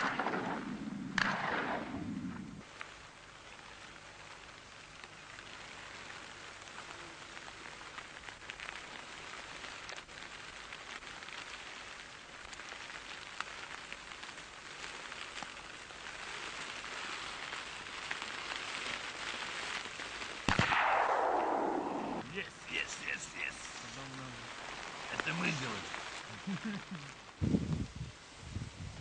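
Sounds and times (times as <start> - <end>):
crackling hiss: 0.0 - 29.0.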